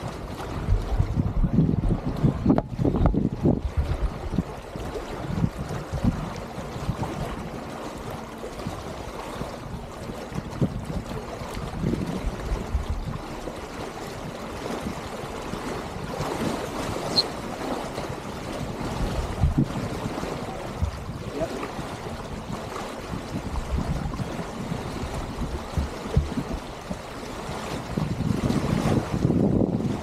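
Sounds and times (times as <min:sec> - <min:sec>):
water splashing along hulls: 0:00.0 - 0:30.0
wind buffeting microphone: 0:00.0 - 0:30.0.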